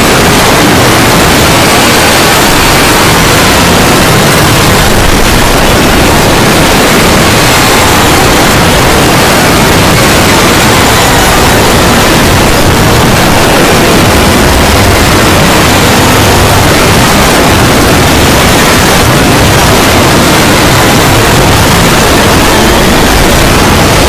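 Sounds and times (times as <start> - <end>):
loud distorted static noise: 0.0 - 24.0.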